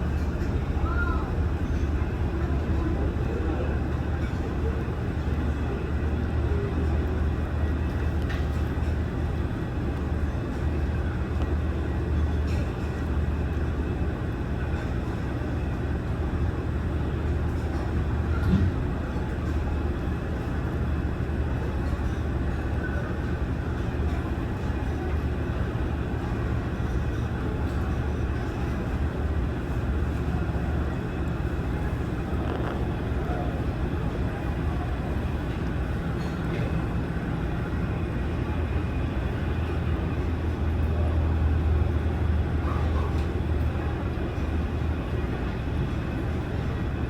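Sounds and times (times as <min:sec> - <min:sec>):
airplane low rumble: 0:00.0 - 0:47.0.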